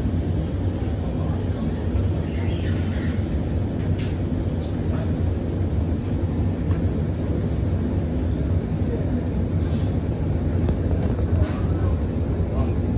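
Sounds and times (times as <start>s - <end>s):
metro car rumble: 0.0s - 12.9s.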